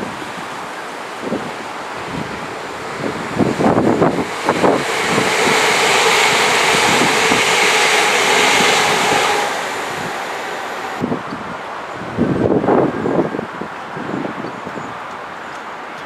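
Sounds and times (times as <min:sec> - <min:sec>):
train passing: 0:00.0 - 0:13.5
wind buffeting microphone: 0:00.0 - 0:15.4.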